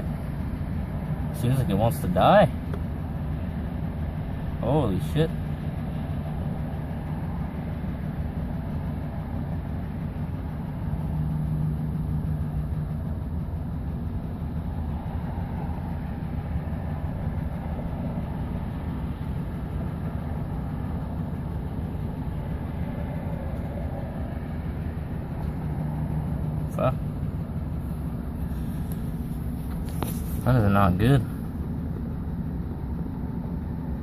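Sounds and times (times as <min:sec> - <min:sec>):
truck engine idling rough: 0:00.0 - 0:34.0.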